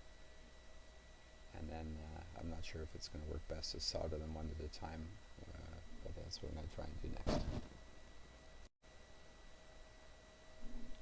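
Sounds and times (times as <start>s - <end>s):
high electrical whine: 0.0s - 9.1s.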